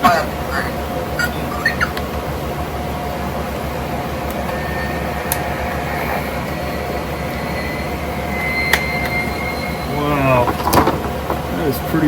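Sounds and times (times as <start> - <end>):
electric fans whirring: 0.0 - 12.0.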